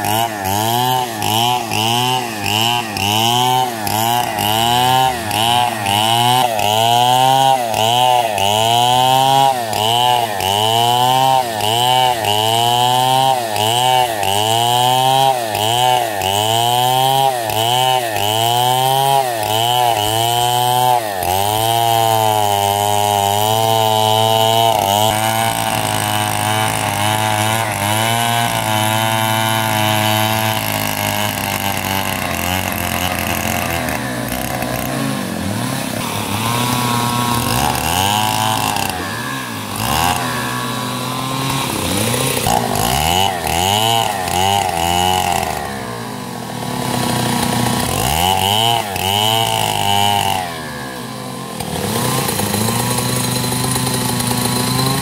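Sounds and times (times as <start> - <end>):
chainsaw cutting timber: 0.0 - 55.0.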